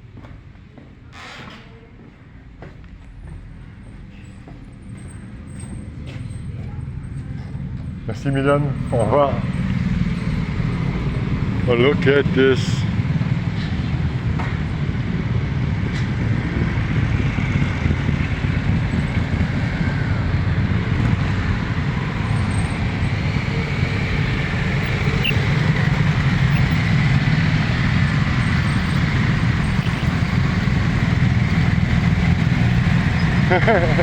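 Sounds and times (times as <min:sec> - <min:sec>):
motorcycle engines idling: 0:03.1 - 0:34.0.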